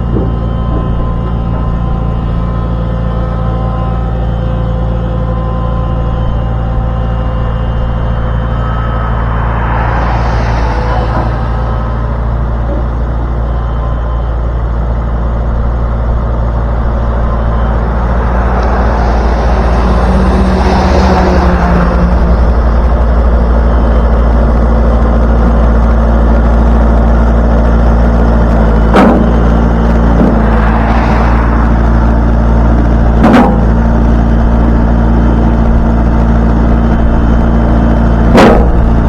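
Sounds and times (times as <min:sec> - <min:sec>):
road noise: 0:00.0 - 0:39.0
truck engine running: 0:00.0 - 0:39.0.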